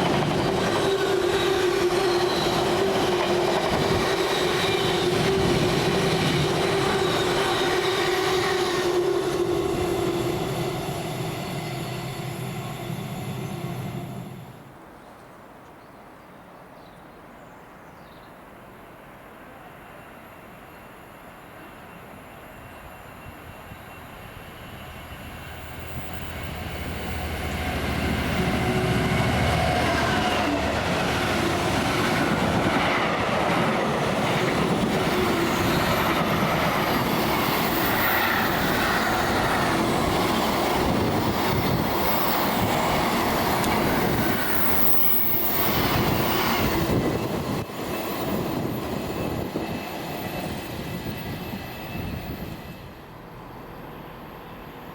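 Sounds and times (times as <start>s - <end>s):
train wheels on rails: 0.0s - 14.8s, 19.2s - 54.9s.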